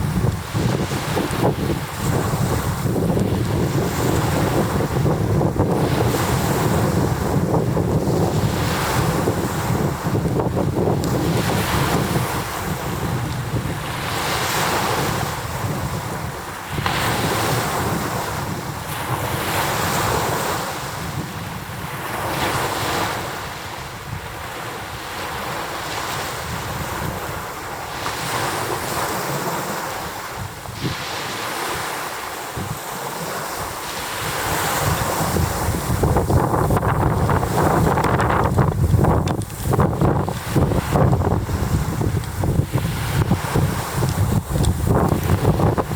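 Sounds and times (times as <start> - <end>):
waves pounding shore: 0.0 - 45.9
wind rumbling on microphone: 0.0 - 45.9.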